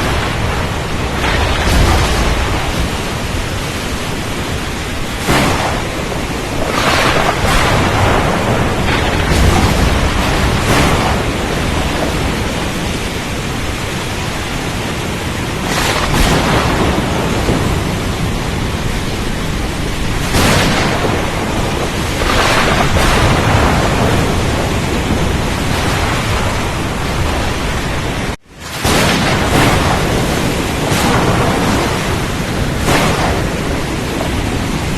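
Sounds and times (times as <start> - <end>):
rain: 0.0 - 34.9
water surging: 0.0 - 34.9.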